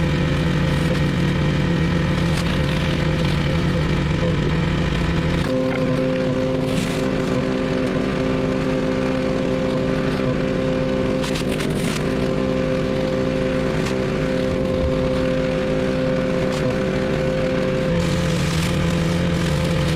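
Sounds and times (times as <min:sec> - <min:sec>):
pressure washer engine running: 0:00.0 - 0:19.9.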